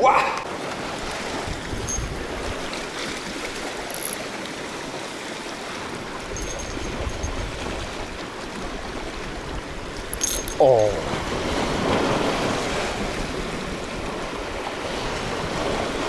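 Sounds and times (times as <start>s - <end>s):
sea water washing over rocks: 0.4s - 16.0s.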